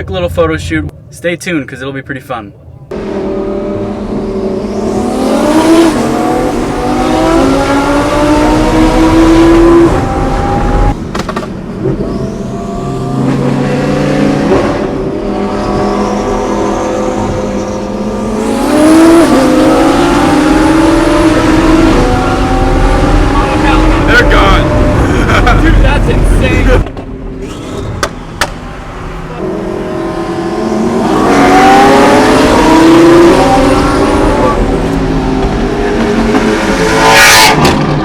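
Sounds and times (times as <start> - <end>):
car engine accelerating hard: 2.9 - 11.0, 11.8 - 26.8, 27.4 - 38.0.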